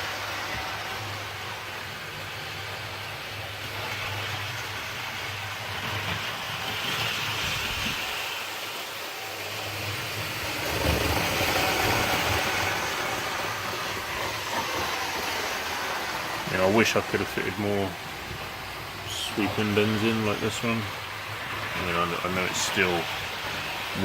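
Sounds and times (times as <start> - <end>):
model train motor whirr: 0.0 - 24.0.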